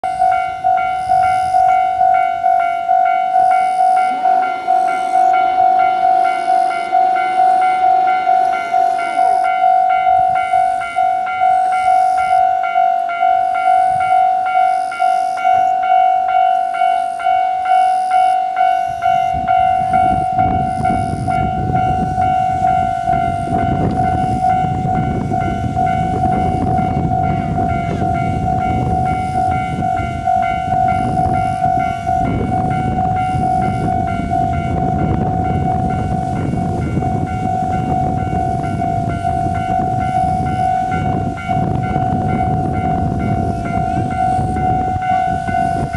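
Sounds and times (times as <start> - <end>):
diesel railcar engine: 0.0 - 45.9
level crossing bell ringing: 0.0 - 45.9.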